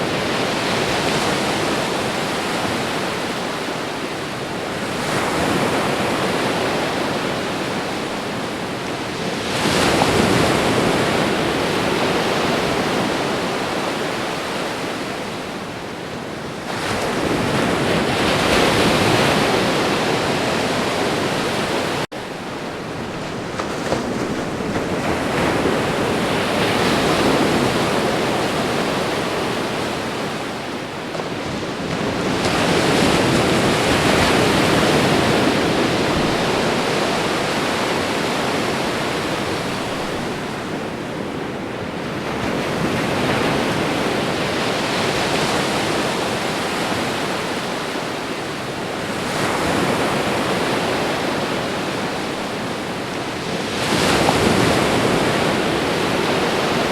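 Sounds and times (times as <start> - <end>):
ocean waves breaking: 0.0 - 56.9.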